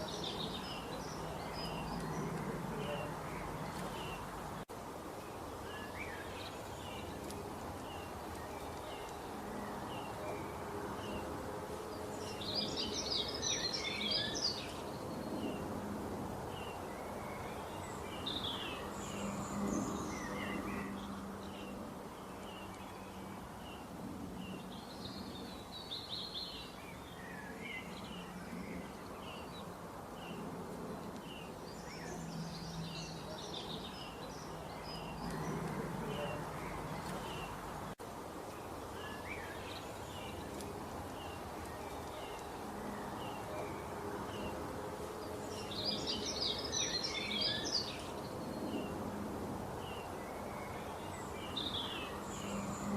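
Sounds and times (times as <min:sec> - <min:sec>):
background noise wash: 0:00.0 - 0:52.9
small birds chirping: 0:00.0 - 0:52.9.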